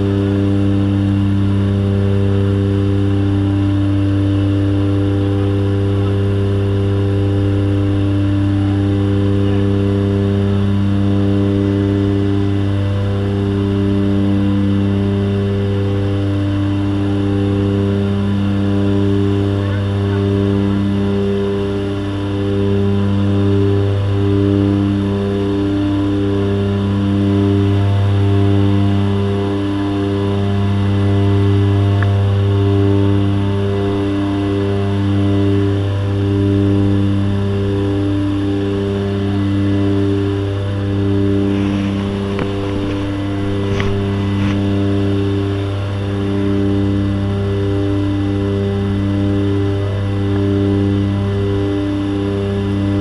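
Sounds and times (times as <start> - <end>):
propeller aircraft engine drone: 0.0 - 53.0.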